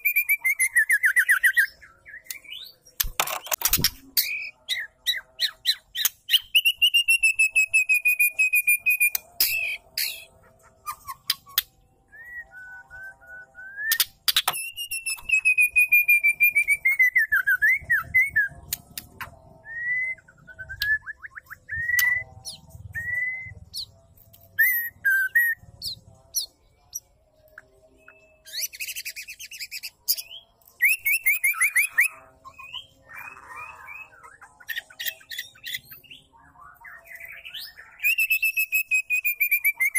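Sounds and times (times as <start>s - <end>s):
bird trilling and whistling: 0.0s - 23.9s, 24.5s - 26.5s, 28.0s - 36.2s, 36.8s - 39.9s.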